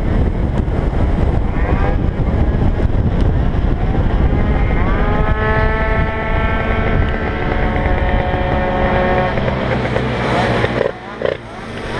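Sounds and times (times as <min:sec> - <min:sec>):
wind rush on microphone: 0:00.0 - 0:10.8
scooter engine at high revs: 0:00.8 - 0:11.9.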